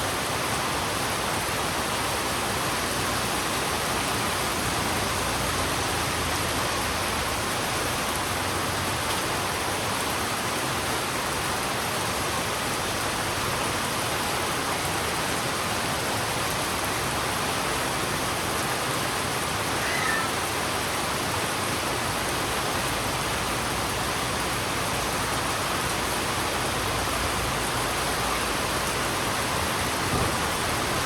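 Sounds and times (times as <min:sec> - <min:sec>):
heavy rain on road: 0:00.0 - 0:31.0.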